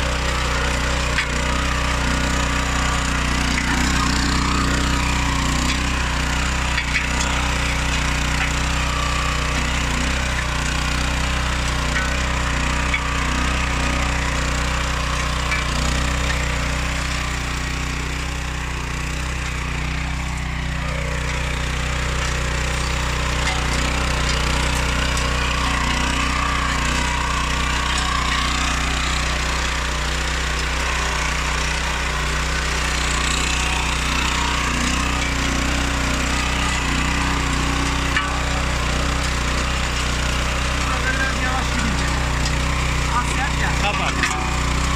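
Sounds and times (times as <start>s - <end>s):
motor hoe engine running: 0.0s - 44.9s.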